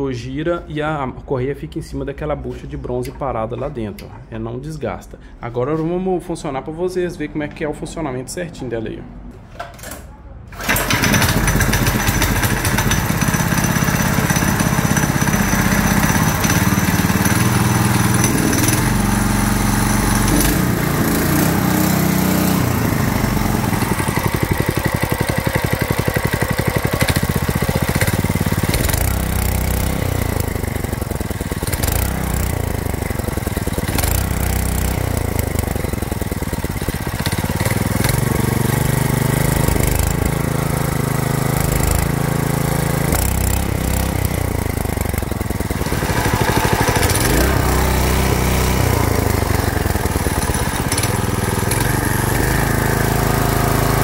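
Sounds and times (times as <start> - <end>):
stationary engine revving: 10.6 - 54.0.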